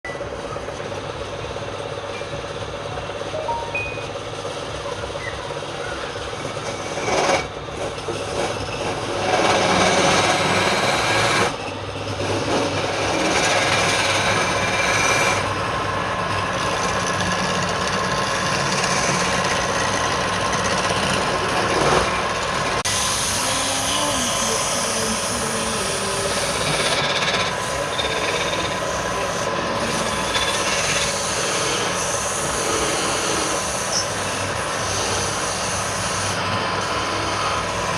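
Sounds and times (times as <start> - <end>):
wood lathe running: 0.1 - 3.4, 4.1 - 37.9
tool rasping on spinning wood: 5.4 - 37.9.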